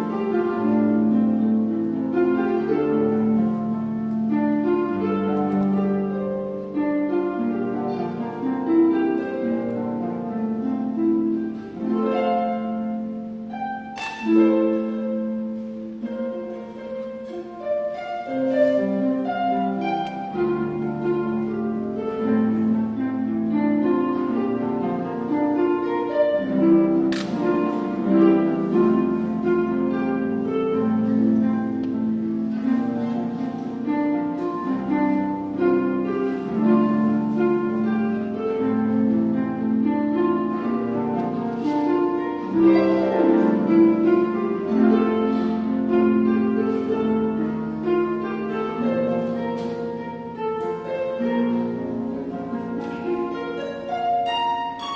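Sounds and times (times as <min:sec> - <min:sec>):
plucked harp notes: 0:00.0 - 0:54.9.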